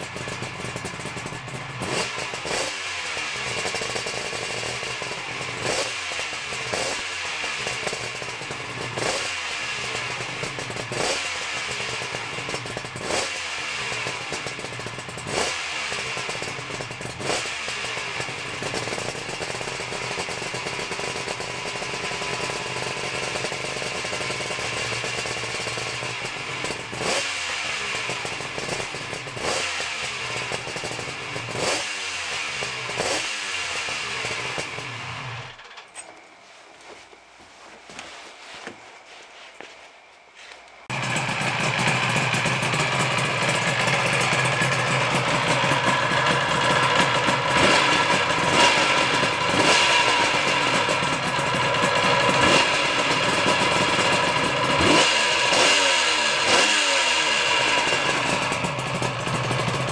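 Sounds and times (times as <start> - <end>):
motorcycle engine revving: 0.0 - 35.8, 40.9 - 59.9.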